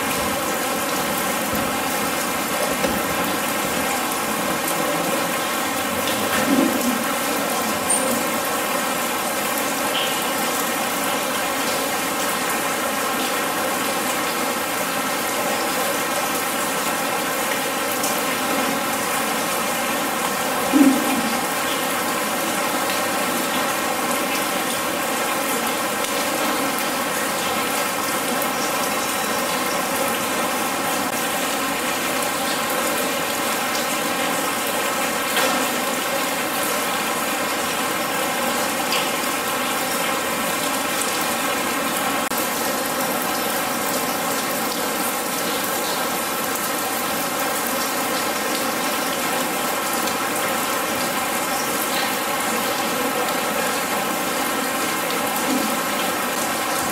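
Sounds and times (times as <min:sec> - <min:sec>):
rain on a metal roof: 0:00.0 - 0:56.9.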